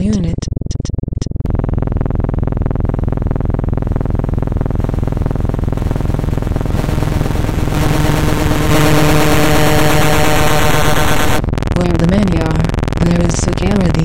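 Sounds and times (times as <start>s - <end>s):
steady low electronic tones: 0.0s - 14.0s
rapid electronic clicks buzzing: 0.1s - 14.0s.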